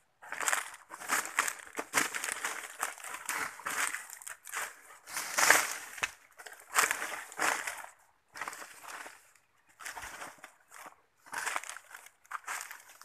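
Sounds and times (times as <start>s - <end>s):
footsteps in dry leaves: 0.3s - 9.2s, 9.8s - 13.0s.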